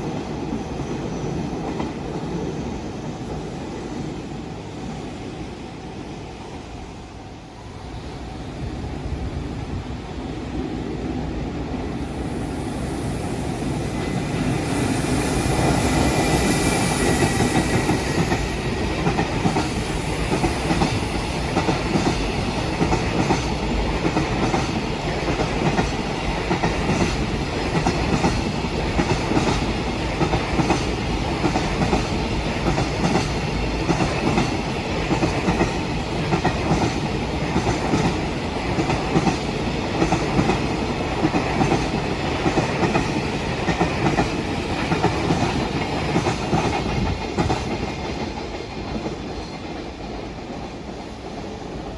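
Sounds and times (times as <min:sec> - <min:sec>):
freight train passing: 0:00.0 - 0:51.9.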